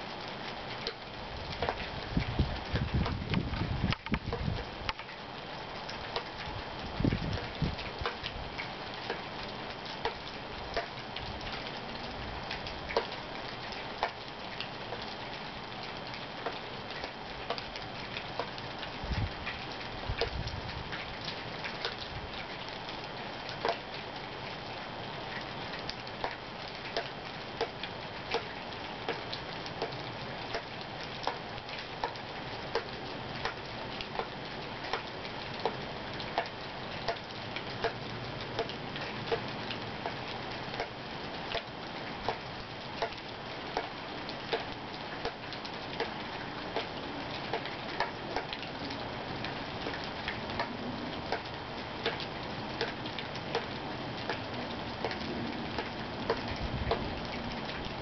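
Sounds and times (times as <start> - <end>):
rain hiss: 0.0 - 58.0
water dripping: 0.1 - 58.0.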